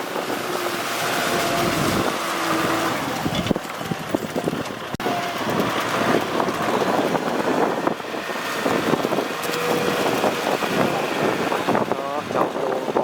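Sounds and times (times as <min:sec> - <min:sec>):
tractor diesel engine running: 0:00.0 - 0:13.0
wind buffeting microphone: 0:00.0 - 0:13.0.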